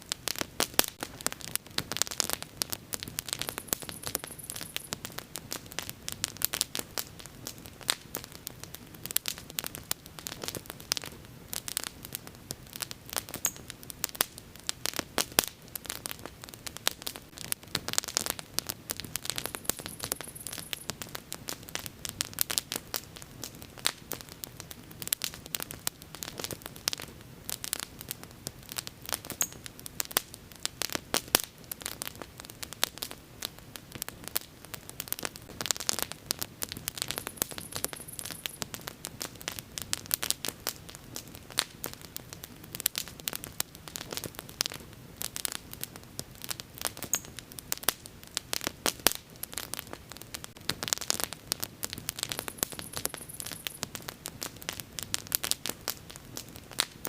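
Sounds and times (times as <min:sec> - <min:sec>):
bonfire crackling: 0:00.0 - 0:57.0.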